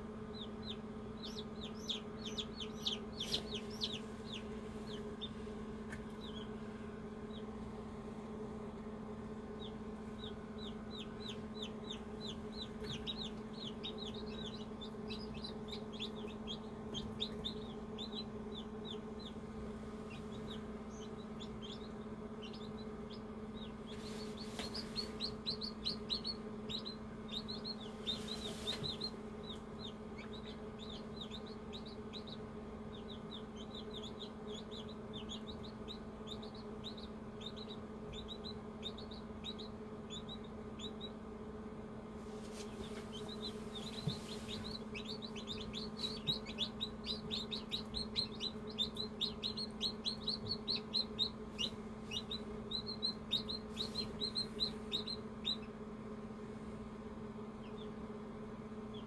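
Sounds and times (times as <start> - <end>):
chicks peeping: 0.0 - 41.6, 42.2 - 56.4, 57.0 - 59.0
steady low hum: 0.0 - 59.0.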